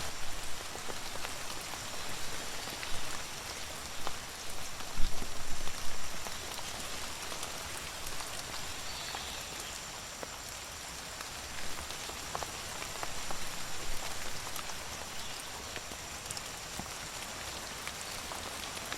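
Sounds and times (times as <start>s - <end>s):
steady rain falling: 0.0s - 18.9s.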